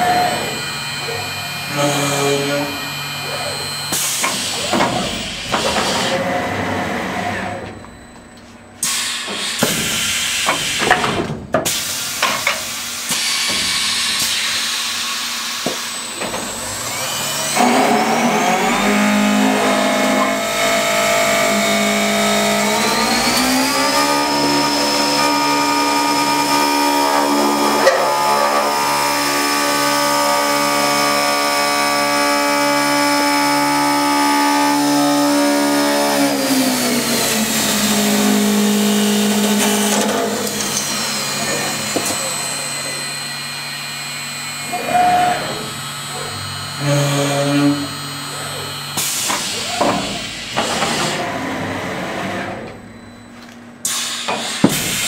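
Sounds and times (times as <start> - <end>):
machine whine: 0.0 - 10.9, 12.2 - 55.0.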